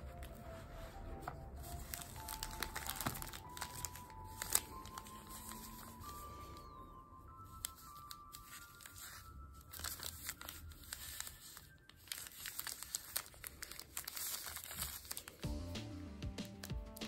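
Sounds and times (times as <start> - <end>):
paper wrapper crinkling: 0.0 - 15.5
soft background music: 0.0 - 17.0.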